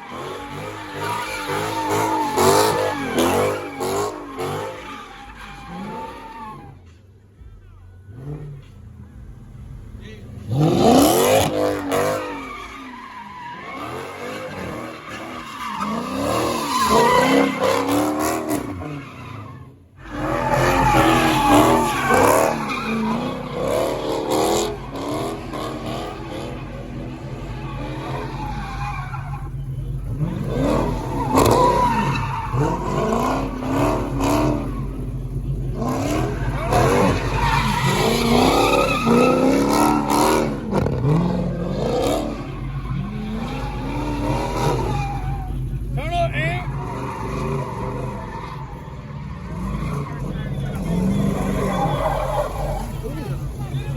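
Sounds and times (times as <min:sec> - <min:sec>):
car engines revving: 0:00.0 - 0:53.9
tyres squealing and skidding: 0:00.0 - 0:53.9.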